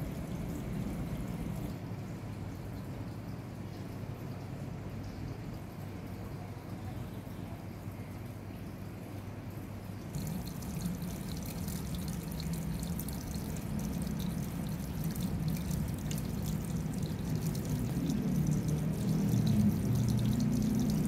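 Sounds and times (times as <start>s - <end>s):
low steady hum: 0.0s - 21.0s
water trickling and splashing: 0.0s - 21.0s.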